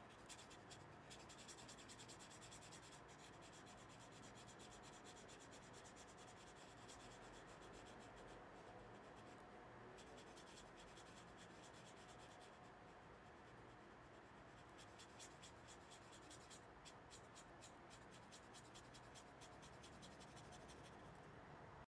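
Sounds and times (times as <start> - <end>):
paintbrush strokes on paper: 0.0 - 21.2.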